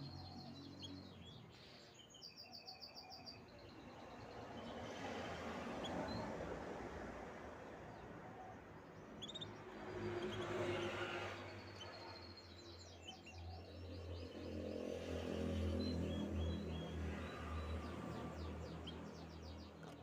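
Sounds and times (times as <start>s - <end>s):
canaries chirping: 0.0s - 6.3s, 8.0s - 20.0s.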